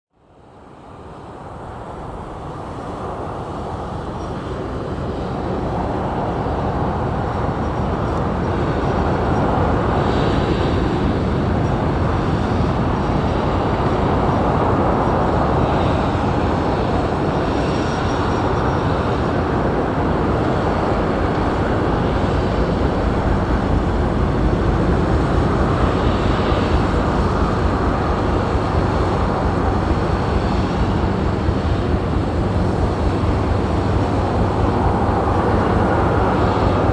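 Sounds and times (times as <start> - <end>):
ship engines rumbling: 1.7 - 36.9.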